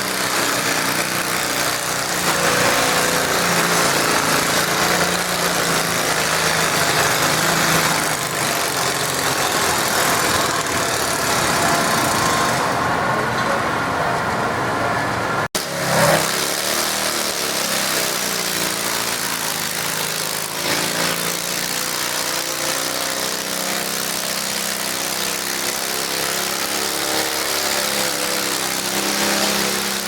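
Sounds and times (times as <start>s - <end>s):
garden tractor engine running: 0.0s - 13.2s, 15.6s - 30.0s.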